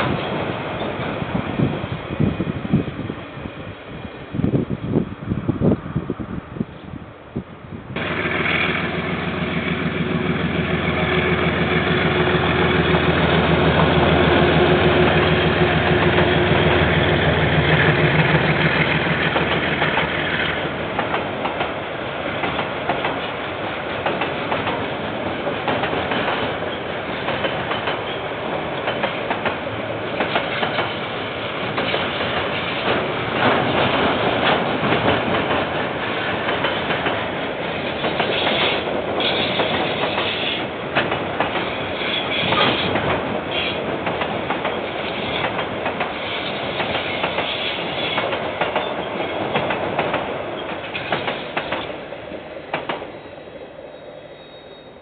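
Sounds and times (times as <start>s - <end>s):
diesel locomotive engine drone: 0.0s - 55.0s
train wagons clacking over rails: 8.0s - 53.2s.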